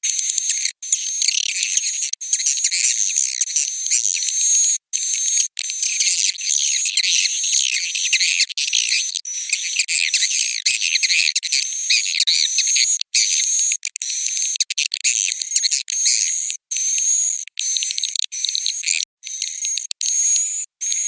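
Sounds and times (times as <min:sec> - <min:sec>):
swiftlets twittering and chirping: 0:00.0 - 0:21.0.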